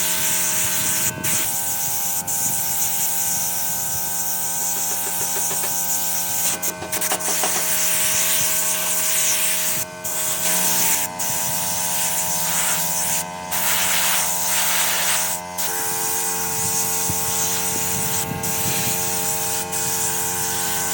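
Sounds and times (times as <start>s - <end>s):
power tool hissing: 0.0s - 20.9s.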